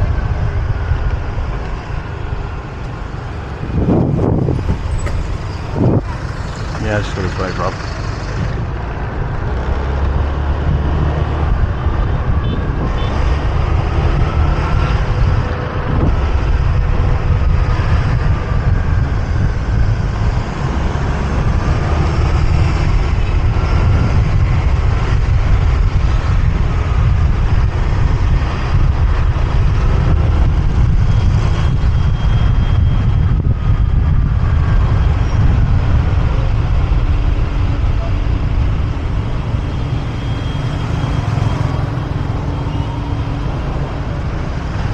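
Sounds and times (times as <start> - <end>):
passing vehicle engines: 0.0 - 44.9.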